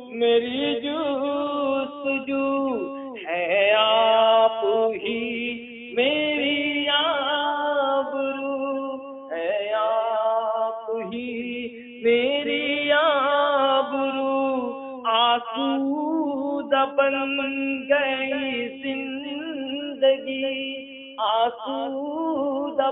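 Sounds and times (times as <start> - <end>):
man singing devotional song: 0.0 - 22.9.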